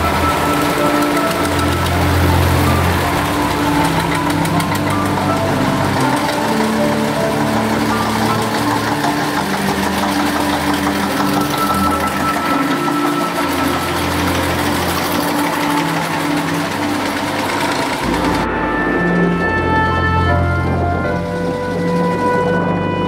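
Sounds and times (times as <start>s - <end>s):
tractor engines running: 0.0s - 23.0s.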